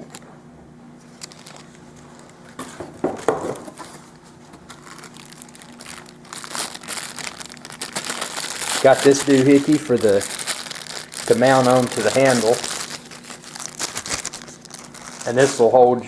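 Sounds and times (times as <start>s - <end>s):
packaging crinkling and rustling: 1.0s - 16.0s.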